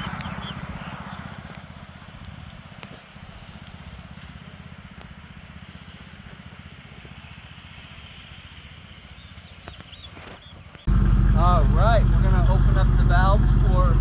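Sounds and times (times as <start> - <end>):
small engine pulsing: 0.0 - 14.0.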